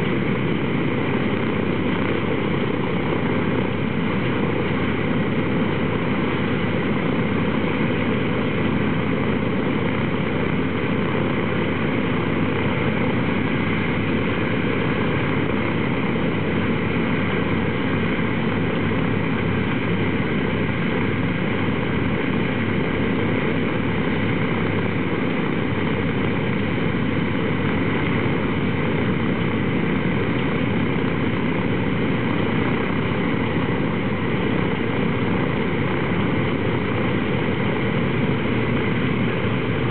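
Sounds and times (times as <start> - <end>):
radial aircraft engines idling: 0.0 - 39.9.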